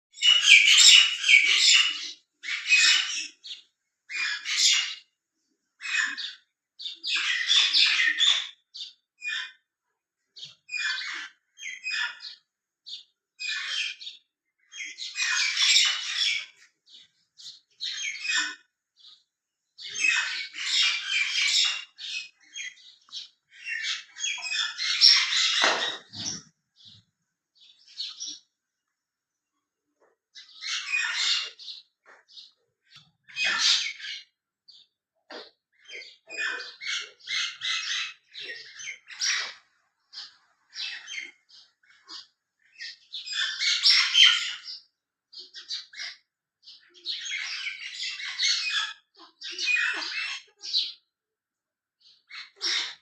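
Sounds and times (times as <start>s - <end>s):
small birds chirping: 0.1s - 53.0s.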